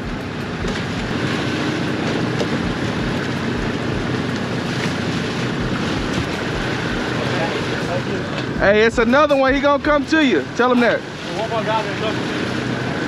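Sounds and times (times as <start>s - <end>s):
boat engine idling: 0.0s - 13.0s
wind buffeting microphone: 0.0s - 13.0s.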